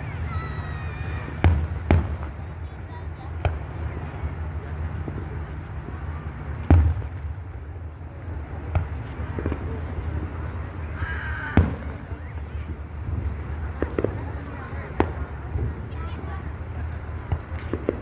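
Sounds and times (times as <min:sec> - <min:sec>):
crickets chirping: 0:00.0 - 0:18.0
firework bangs: 0:00.1 - 0:18.0.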